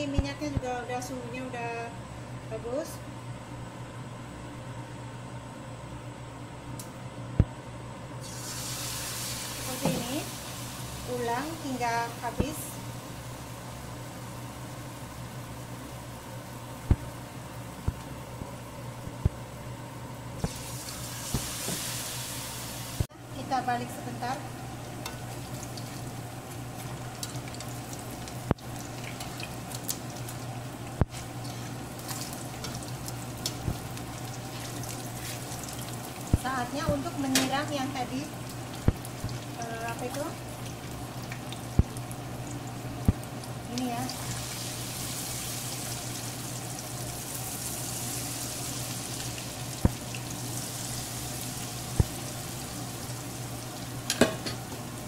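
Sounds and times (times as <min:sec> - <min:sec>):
food deep-frying in oil: 0:08.2 - 0:55.0.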